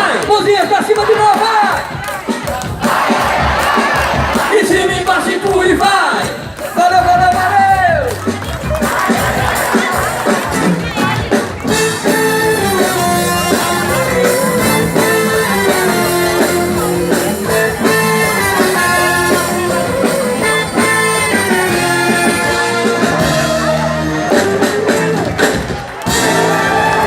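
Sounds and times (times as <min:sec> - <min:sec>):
live band instrumental music: 0:00.0 - 0:27.0.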